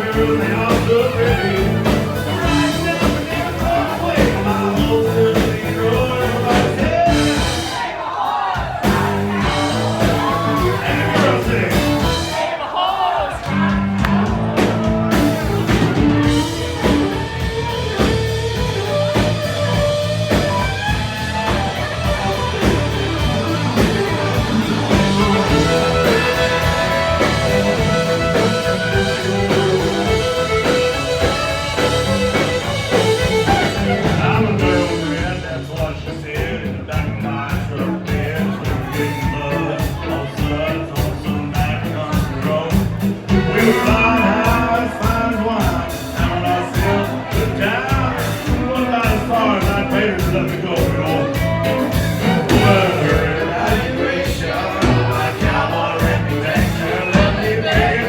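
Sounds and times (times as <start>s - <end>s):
lead singer singing: 0.0s - 17.4s, 21.4s - 58.0s
live country rock band: 0.0s - 58.0s.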